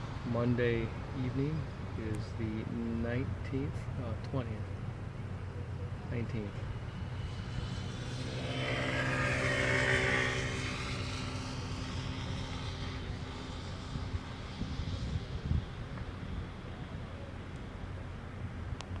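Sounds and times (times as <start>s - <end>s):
passing vehicle engine drone: 0.0s - 18.5s.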